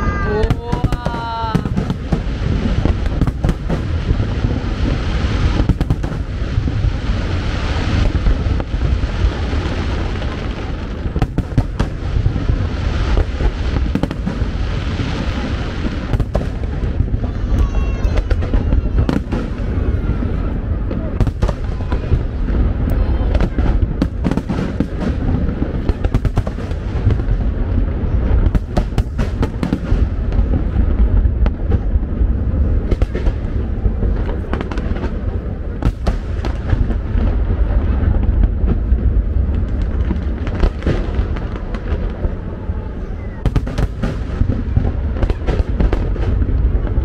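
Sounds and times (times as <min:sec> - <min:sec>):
deep rumble: 0:00.0 - 0:47.0
fireworks bursting with cracks and booms: 0:00.0 - 0:47.0.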